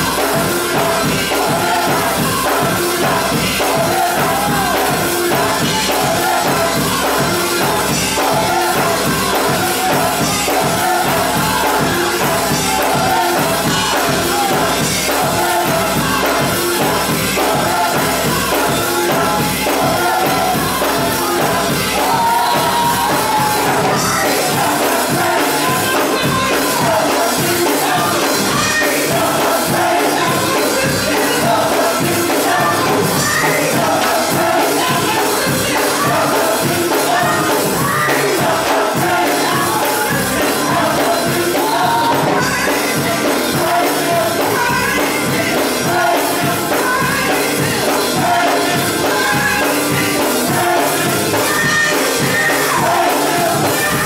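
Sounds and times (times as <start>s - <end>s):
band playing: 0.0s - 54.0s
choir singing: 0.0s - 54.0s
steady drum beat: 0.0s - 54.0s.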